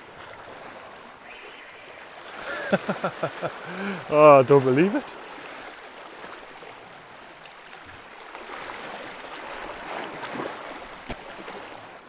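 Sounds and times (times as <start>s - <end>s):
sea waves washing over rocks: 0.0s - 12.0s.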